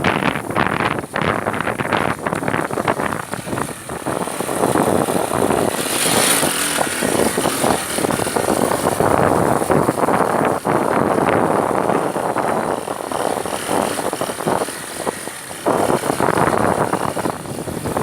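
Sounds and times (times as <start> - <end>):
motorcycle running: 0.0 - 18.0.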